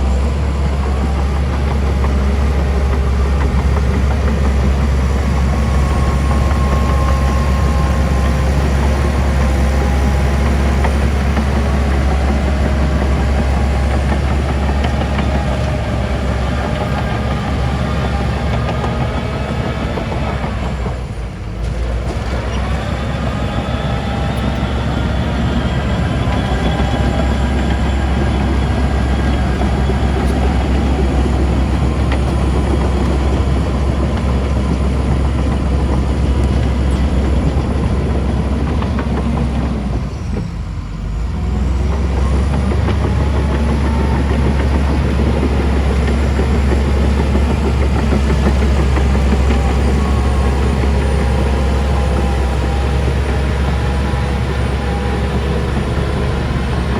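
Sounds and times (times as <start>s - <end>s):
heavy diesel machinery drone: 0.0s - 56.9s.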